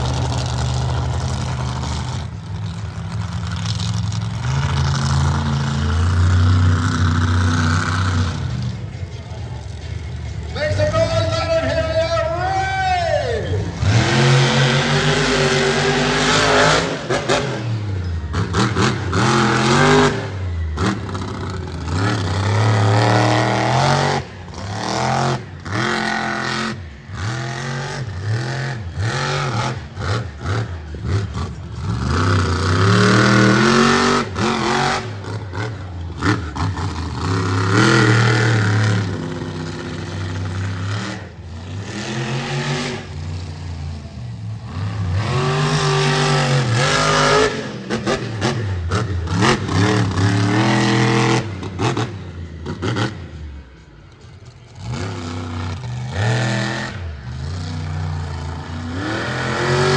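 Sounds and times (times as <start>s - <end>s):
truck engine revving hard: 0.0s - 59.9s.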